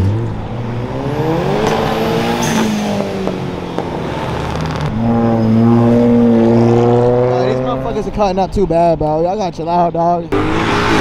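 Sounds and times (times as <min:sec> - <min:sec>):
car engines revving: 0:00.0 - 0:09.1, 0:09.9 - 0:11.0.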